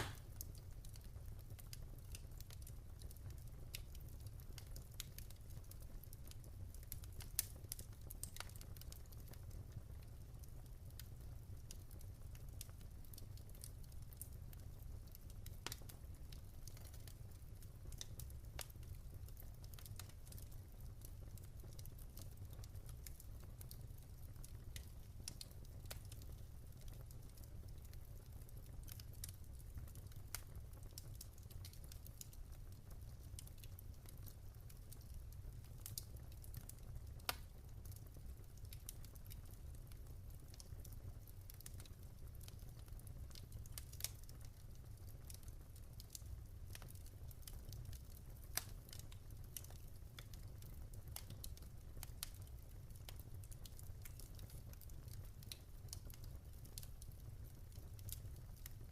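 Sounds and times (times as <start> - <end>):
low fire rumble: 0.0 - 58.9
wood fire crackling and popping: 0.0 - 58.9.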